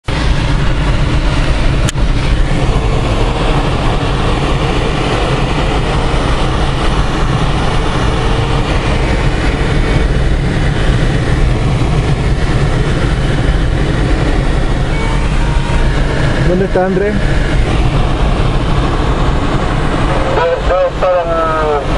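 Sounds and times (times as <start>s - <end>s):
rush of airflow in cockpit: 0.0s - 21.9s.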